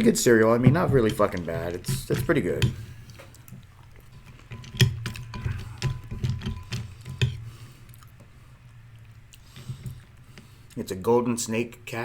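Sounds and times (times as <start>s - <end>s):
chewing crunchy cereal: 0.0s - 10.8s.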